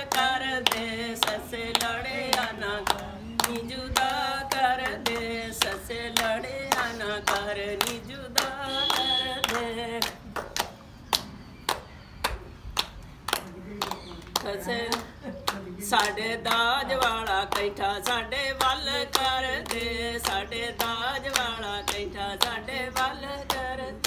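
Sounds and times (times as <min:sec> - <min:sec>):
women singing folk song: 0:00.0 - 0:10.3, 0:14.3 - 0:24.0
rhythmic hand clapping: 0:00.0 - 0:24.0.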